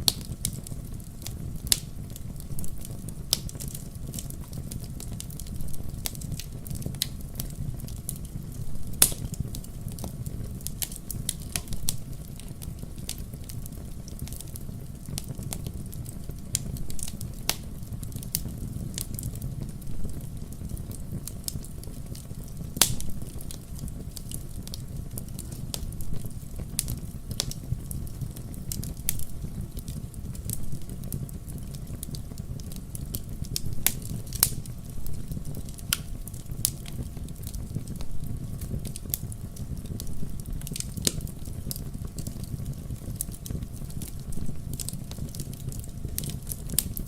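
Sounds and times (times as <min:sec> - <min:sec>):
fire crackles and pops: 0:00.0 - 0:47.0
low rush of flames: 0:00.0 - 0:47.0.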